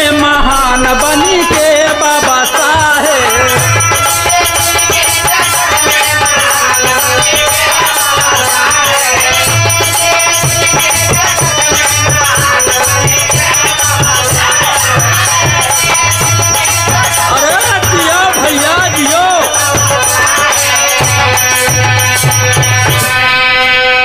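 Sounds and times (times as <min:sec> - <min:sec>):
high rattle keeping beat: 0:00.0 - 0:23.7
dholak drum strokes: 0:00.0 - 0:24.0
harmonium melody: 0:00.0 - 0:24.0.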